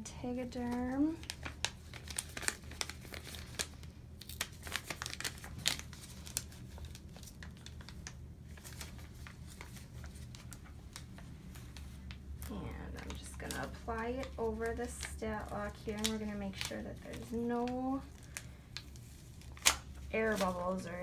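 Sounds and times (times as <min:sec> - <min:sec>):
plastic film crinkling: 0:00.4 - 0:21.0.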